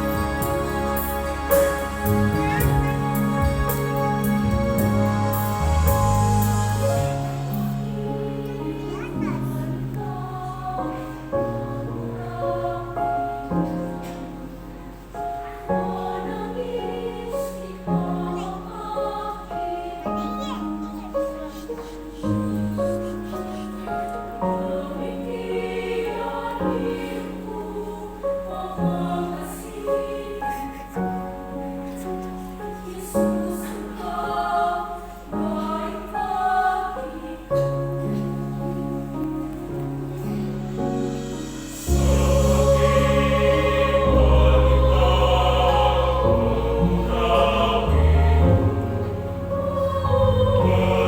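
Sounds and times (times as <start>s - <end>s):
church choir singing: 0.0s - 51.0s.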